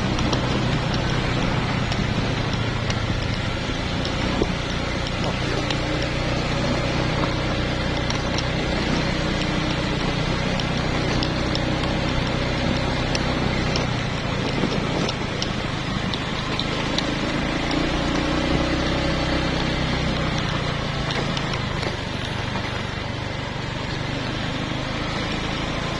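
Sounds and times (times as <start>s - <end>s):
faint clicks: 0.0s - 23.1s
vehicle engine running: 0.0s - 25.9s.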